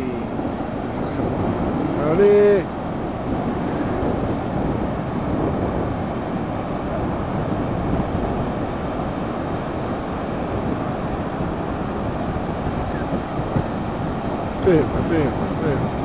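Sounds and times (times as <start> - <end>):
ocean surf breaking on beach: 0.0 - 16.0
wind buffeting microphone: 0.0 - 16.0.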